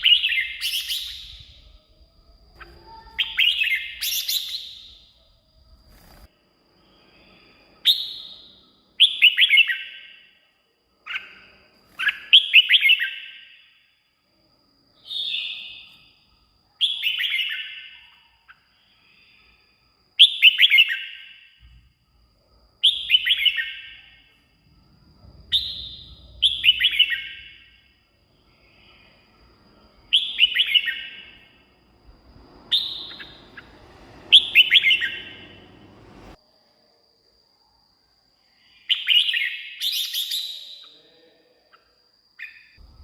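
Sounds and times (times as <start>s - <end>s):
bird singing: 0.0s - 14.2s, 14.8s - 21.9s, 22.8s - 36.4s, 38.4s - 43.0s.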